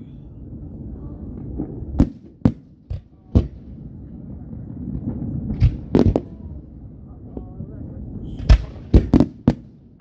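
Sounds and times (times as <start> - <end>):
fireworks bangs and booms: 0.0 - 10.0.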